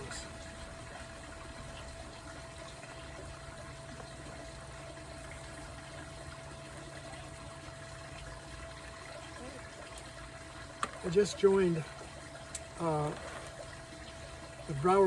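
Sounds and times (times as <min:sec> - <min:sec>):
faint steady whine: 0:00.0 - 0:15.0
steady hum and hiss: 0:00.0 - 0:15.0.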